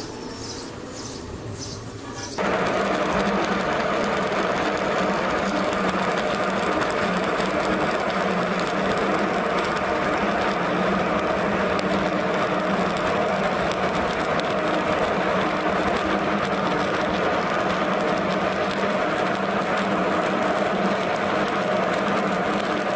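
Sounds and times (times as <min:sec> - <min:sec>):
welding arc crackling and sizzling: 0:00.0 - 0:22.9.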